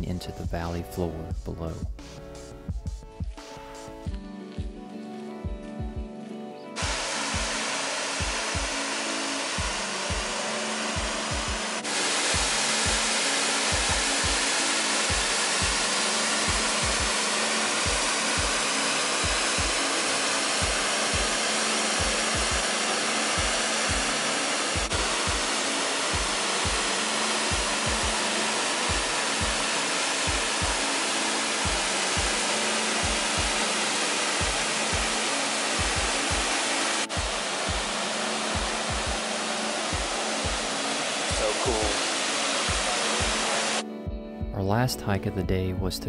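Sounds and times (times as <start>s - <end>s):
background music with low beat: 0.0s - 46.0s
waterfall rushing: 6.8s - 43.8s.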